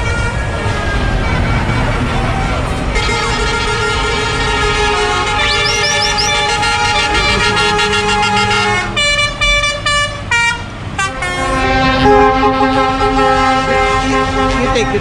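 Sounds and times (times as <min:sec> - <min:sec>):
truck air horns: 0:00.0 - 0:15.0
trucks running: 0:00.0 - 0:15.0.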